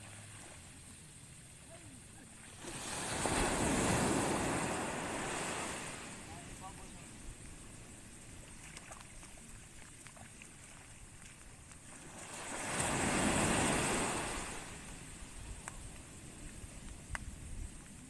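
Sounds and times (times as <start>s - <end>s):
small surf breaking on beach: 1.6s - 18.0s.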